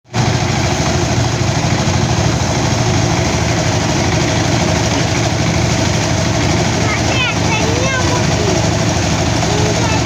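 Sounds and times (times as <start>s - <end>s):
threshing machine engine running: 0.1s - 10.0s.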